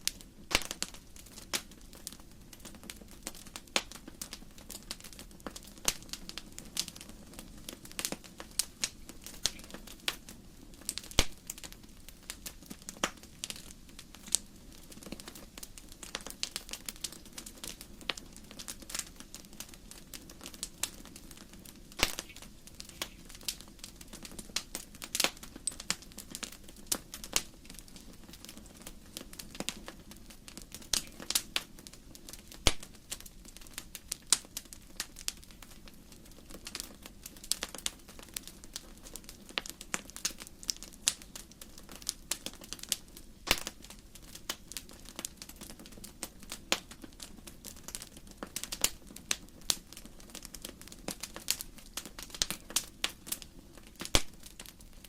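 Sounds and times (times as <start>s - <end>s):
low hiss of flames: 0.0s - 55.0s
wood fire crackling and popping: 0.0s - 55.0s.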